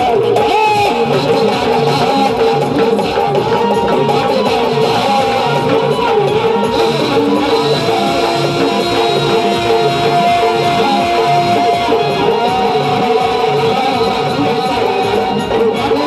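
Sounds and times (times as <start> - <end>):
hand drum and drum pad beat: 0.0 - 16.0
held keyboard notes: 0.0 - 16.0.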